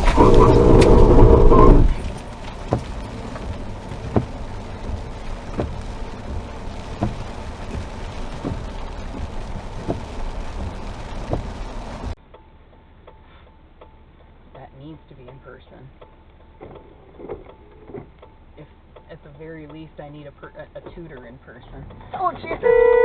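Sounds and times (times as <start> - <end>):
car driving interior noise: 0.0 - 23.0.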